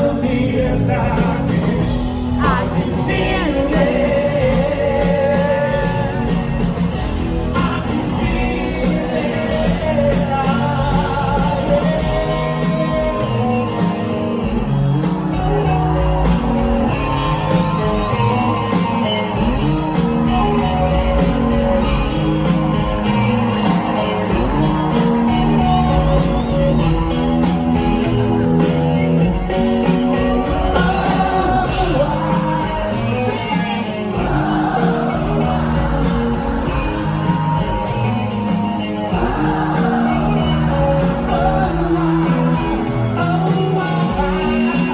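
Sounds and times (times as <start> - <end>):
bass guitar: 0.0 - 44.9
drums: 0.0 - 44.9
electric guitars: 0.0 - 44.9
person singing: 0.0 - 44.9.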